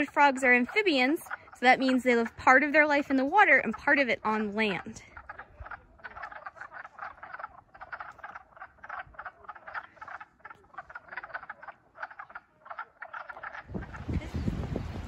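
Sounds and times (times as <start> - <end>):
frogs calling: 0.0 - 14.1.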